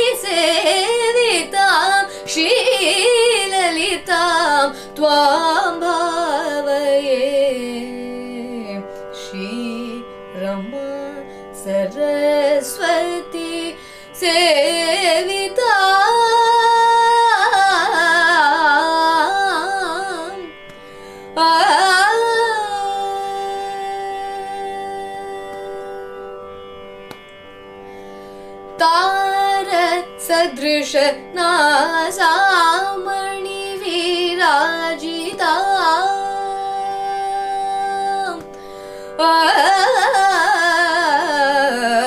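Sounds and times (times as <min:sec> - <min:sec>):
woman singing ornamented phrases: 0:00.0 - 0:20.5, 0:21.4 - 0:26.3, 0:28.8 - 0:38.5, 0:39.2 - 0:42.0.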